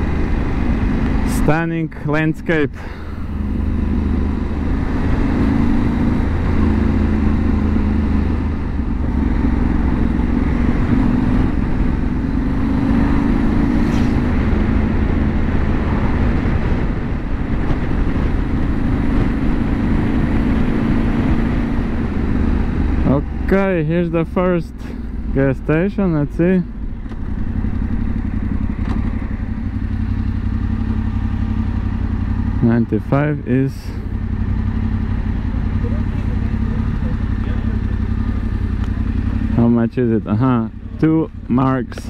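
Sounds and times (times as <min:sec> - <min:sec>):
motorcycle engine running: 0:00.0 - 0:42.0
wind and road rush: 0:00.0 - 0:42.0.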